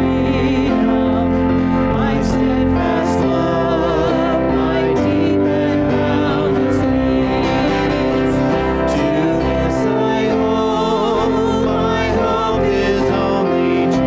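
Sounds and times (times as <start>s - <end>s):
held chords with wavering melody: 0.0s - 14.0s.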